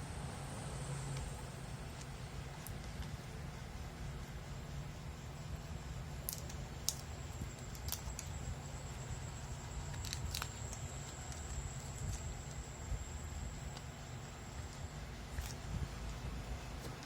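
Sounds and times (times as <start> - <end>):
faint high whine: 0.0 - 17.0
steady low hum: 0.0 - 17.0.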